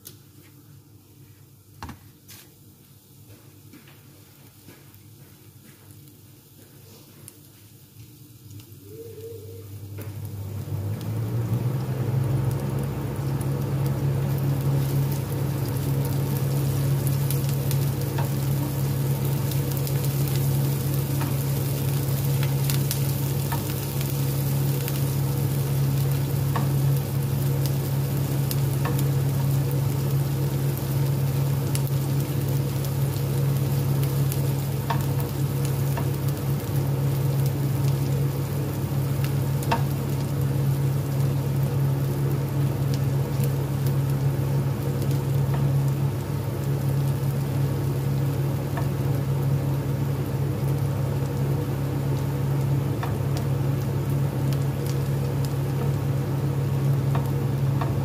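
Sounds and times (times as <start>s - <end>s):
steady low hum: 2.7s - 58.0s
onion sizzling in oil: 5.9s - 58.0s.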